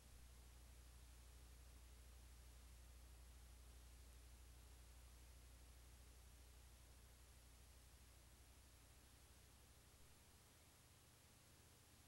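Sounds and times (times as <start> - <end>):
faint low hum with hiss: 0.0 - 12.0.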